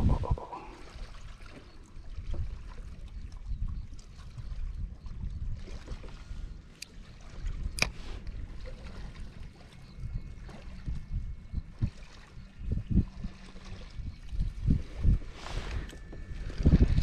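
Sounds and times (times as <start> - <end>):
water lapping against kayak hull: 0.0 - 17.0
wind rumble on microphone: 0.0 - 17.0.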